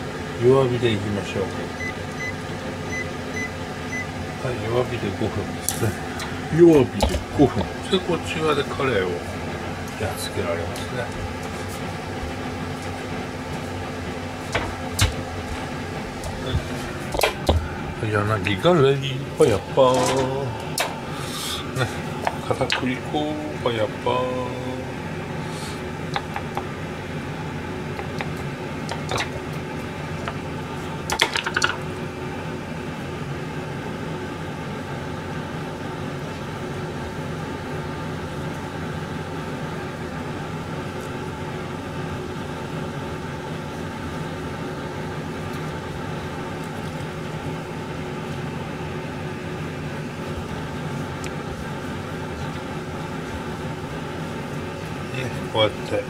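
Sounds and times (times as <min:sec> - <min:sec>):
kitchen appliance humming: 0:00.0 - 0:56.0.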